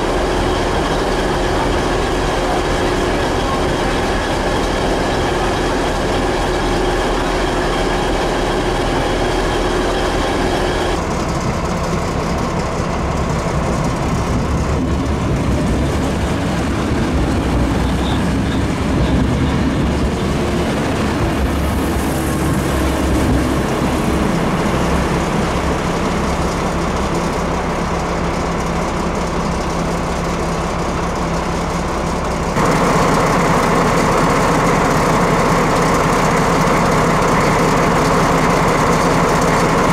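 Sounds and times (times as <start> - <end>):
train engine running slowly: 0.0 - 39.9
train wheel noise: 0.0 - 39.9.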